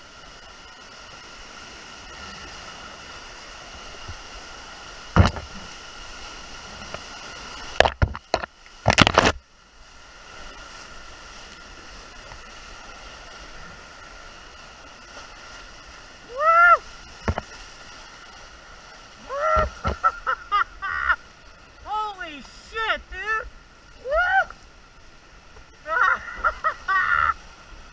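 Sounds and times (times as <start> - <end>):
rushing creek water: 0.0 - 27.9.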